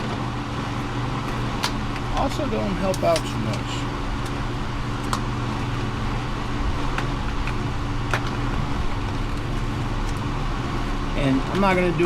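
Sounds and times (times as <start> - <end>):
vehicle engine idling hum: 0.0 - 12.0.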